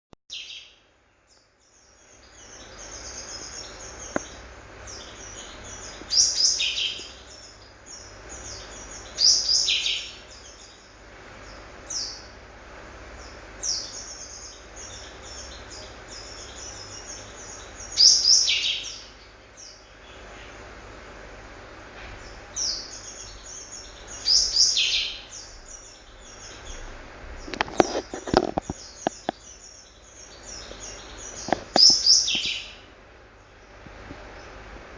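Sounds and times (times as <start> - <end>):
pet bird chirping: 1.4 - 12.3, 13.2 - 20.6, 22.2 - 32.9.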